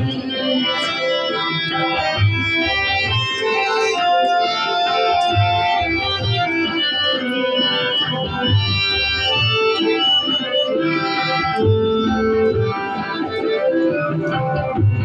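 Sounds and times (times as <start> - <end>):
keyboard melody: 0.0 - 15.0.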